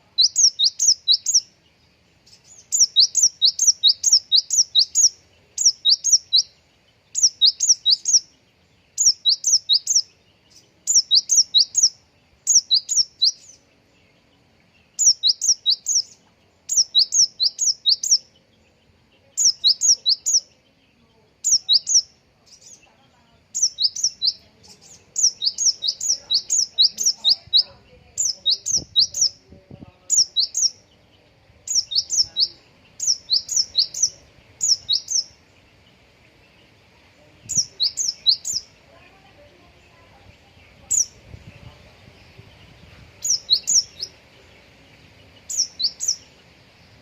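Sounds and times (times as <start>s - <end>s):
songbird chirping: 0.0s - 47.0s.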